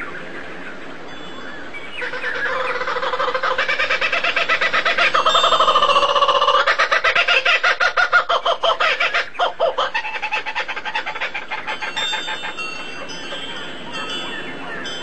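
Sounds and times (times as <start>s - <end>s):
bird calling repeated notes: 1.5s - 15.0s.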